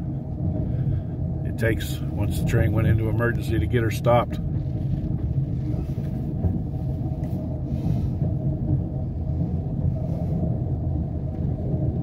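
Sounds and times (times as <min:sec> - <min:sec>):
vehicle engine rumble from inside: 0:00.0 - 0:12.0.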